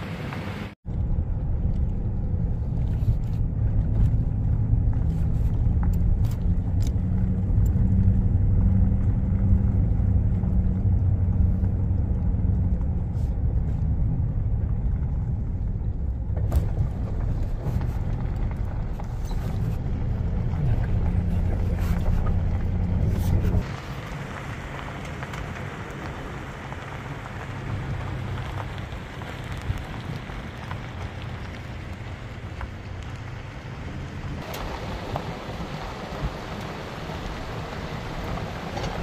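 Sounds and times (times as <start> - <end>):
truck engine and road rumble: 0.0 - 39.0.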